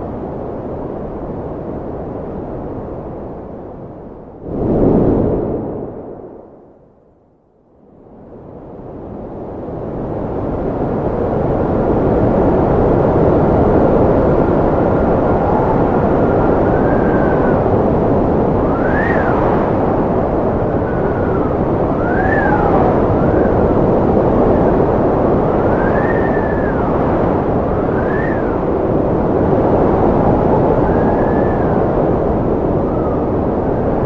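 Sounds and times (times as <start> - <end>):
strong wind whistling: 0.0 - 7.2, 8.6 - 34.0.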